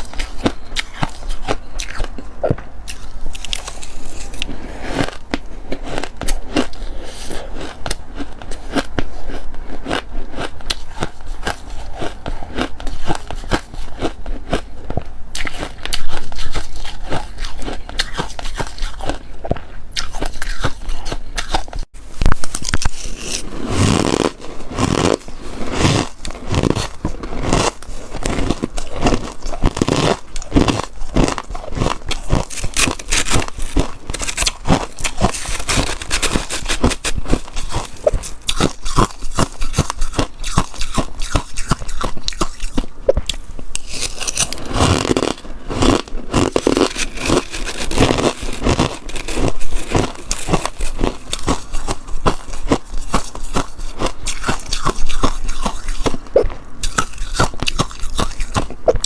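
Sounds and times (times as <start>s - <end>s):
person chewing crunchy frost: 0.0s - 59.0s.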